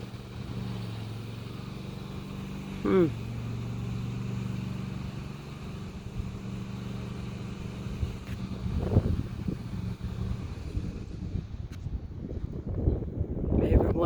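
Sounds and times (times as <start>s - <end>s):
engine humming: 0.0s - 13.9s.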